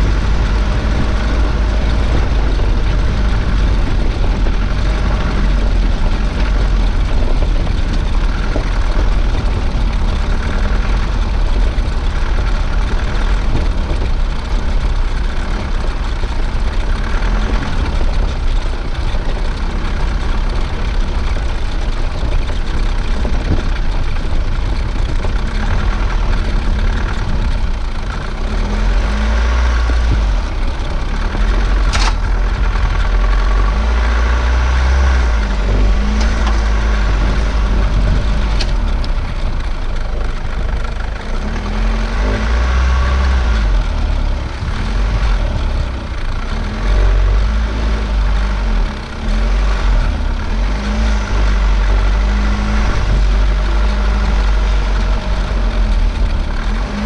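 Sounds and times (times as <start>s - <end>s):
vehicle engine revving on gravel: 0.0s - 57.0s.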